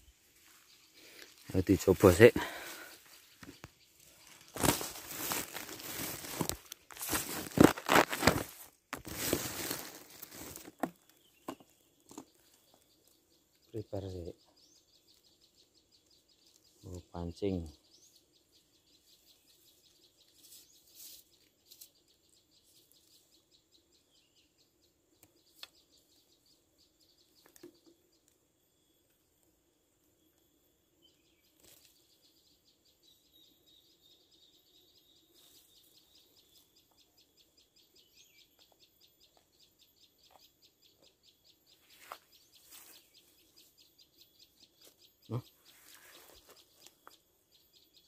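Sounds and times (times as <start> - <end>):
faint bird chirping: 0.0 - 8.5, 9.2 - 48.0.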